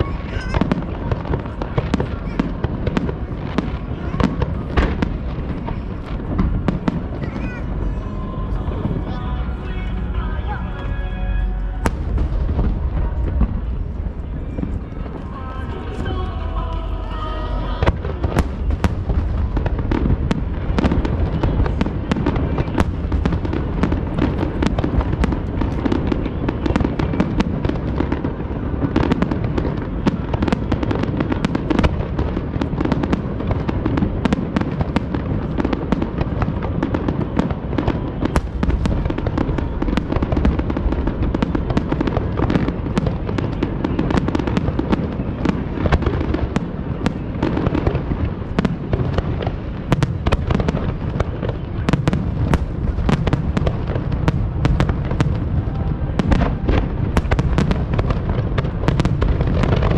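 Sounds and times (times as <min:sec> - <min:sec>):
fireworks bursts and pops: 0:00.0 - 0:07.9, 0:17.8 - 0:59.9.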